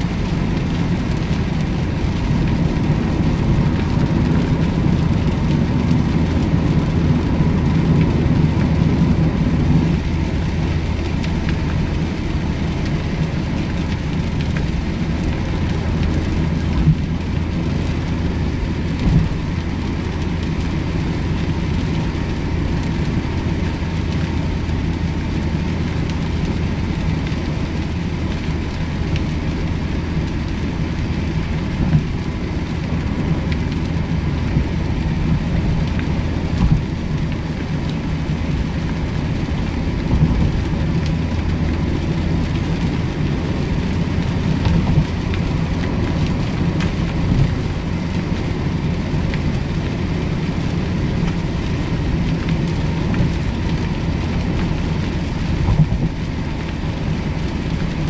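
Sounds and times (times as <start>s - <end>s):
car engine and tyre drone: 0.0s - 58.0s
rain and spray hissing: 0.0s - 58.0s.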